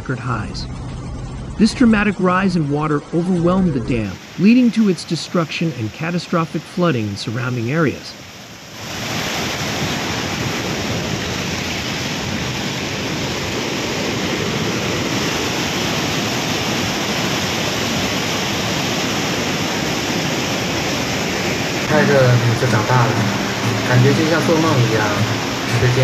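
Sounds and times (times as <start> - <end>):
floodwater rushing: 1.6 - 26.0.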